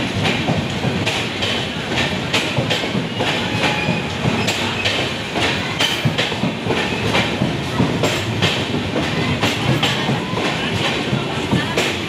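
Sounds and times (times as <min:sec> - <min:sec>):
train rumble: 0:00.0 - 0:12.0
wheel clacks over rail joints: 0:00.0 - 0:12.0.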